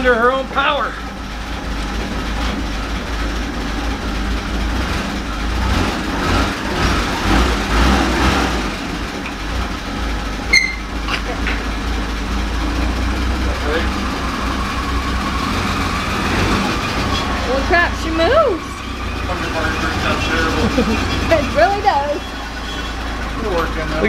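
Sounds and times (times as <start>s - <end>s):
jeep engine running: 0.0s - 24.0s.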